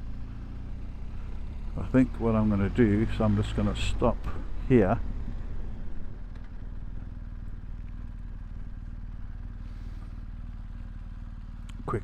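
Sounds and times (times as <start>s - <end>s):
motorcycle engine idling: 0.0s - 3.3s, 4.4s - 12.0s.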